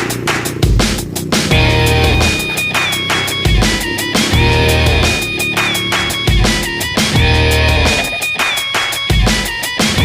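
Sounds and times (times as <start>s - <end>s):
sustained bass notes: 0.0s - 9.2s
steady drum beat: 0.0s - 10.0s
electric guitar rock music: 0.6s - 10.0s.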